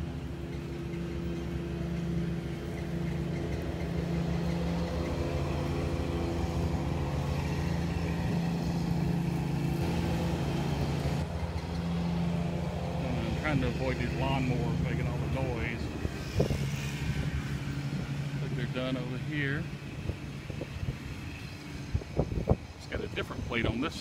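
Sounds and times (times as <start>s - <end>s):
lawnmower engines droning: 0.0s - 24.0s.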